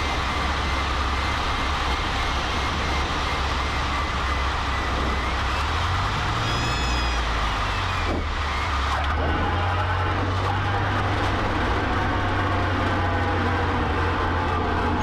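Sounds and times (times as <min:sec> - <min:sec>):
small plane engine hum: 0:00.0 - 0:15.0.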